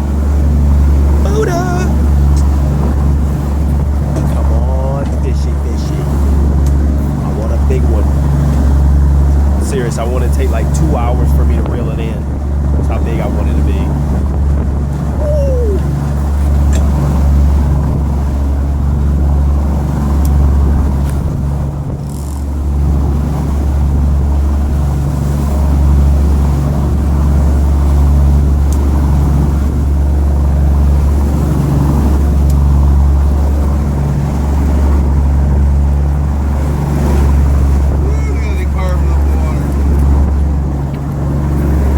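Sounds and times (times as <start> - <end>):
boat engine humming: 0.0 - 41.9
water noise: 0.0 - 41.9
wind noise: 0.0 - 41.9.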